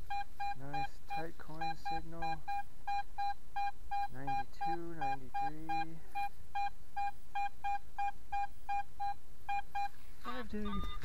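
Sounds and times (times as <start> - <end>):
metal detector high beeps: 0.1 - 9.9.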